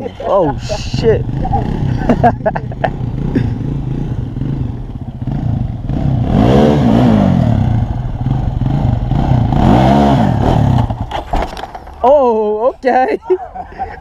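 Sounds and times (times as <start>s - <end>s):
small vehicle engine idling and revving: 0.0s - 14.0s.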